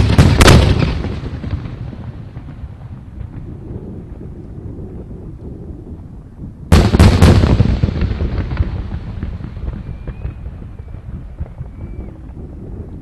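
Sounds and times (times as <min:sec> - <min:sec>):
rolling echo: 0:00.0 - 0:04.6, 0:06.7 - 0:13.0
fireworks booming: 0:00.0 - 0:05.1, 0:06.7 - 0:13.0
low rumble of bursts: 0:00.0 - 0:13.0.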